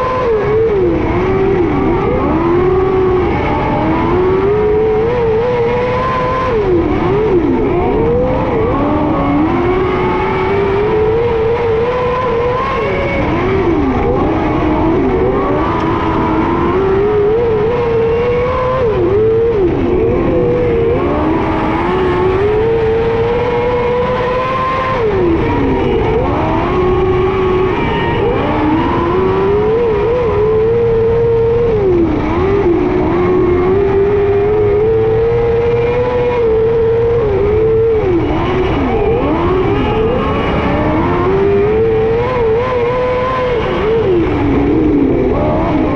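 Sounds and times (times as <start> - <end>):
racing car engine revving: 0.0 - 45.9.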